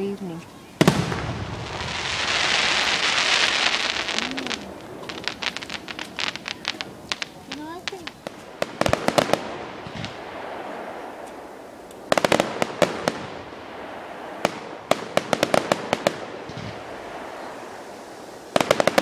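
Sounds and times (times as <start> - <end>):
low fireworks booms: 0.0 - 19.0
fireworks crackling pops: 0.8 - 19.0.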